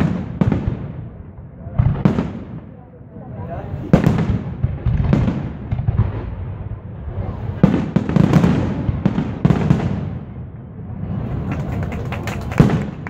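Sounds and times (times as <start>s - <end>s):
fireworks bursting with crackling: 0.0s - 2.9s, 3.6s - 13.0s.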